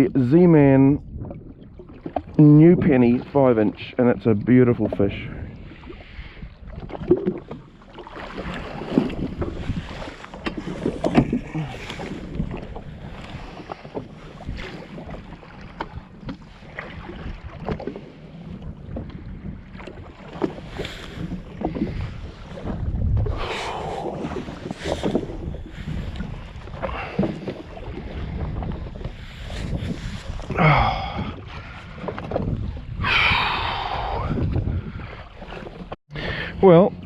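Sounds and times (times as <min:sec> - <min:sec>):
water splashing against hull: 0:00.0 - 0:37.0
wind buffeting microphone: 0:00.0 - 0:37.0.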